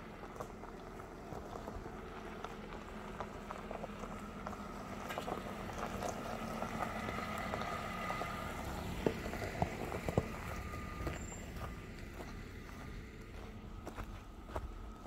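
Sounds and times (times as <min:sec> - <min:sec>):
car engine running low: 0:00.0 - 0:15.0
tyres crackling over gravel: 0:00.0 - 0:15.0.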